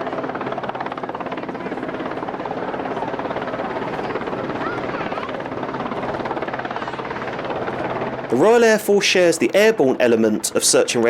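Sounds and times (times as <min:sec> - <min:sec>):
helicopter rotor chopping: 0:00.0 - 0:11.0
turbines running: 0:00.0 - 0:11.0.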